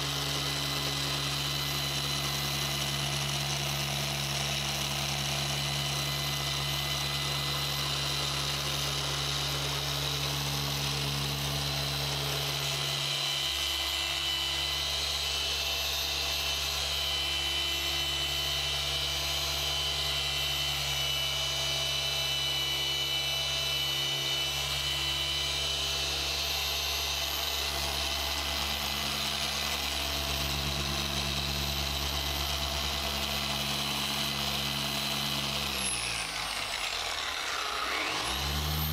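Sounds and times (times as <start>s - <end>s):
polisher humming and whining: 0.0s - 38.9s.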